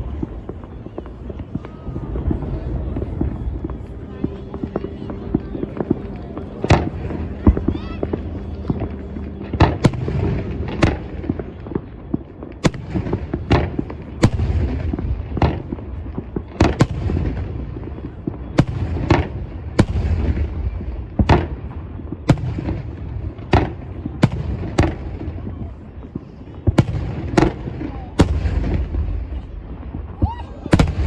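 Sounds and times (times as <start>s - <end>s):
distant fireworks rumble and crackle: 0.0s - 31.0s.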